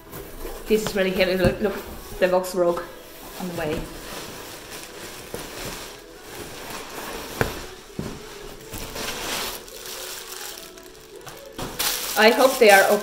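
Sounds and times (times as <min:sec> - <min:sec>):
cardboard rustling and crinkling: 0:00.0 - 0:13.0.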